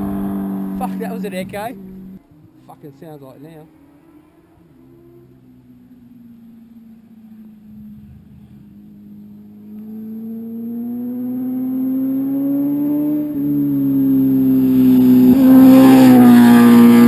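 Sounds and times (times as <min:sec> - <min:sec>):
motorcycle engine accelerating: 0:00.0 - 0:02.3, 0:03.6 - 0:17.0.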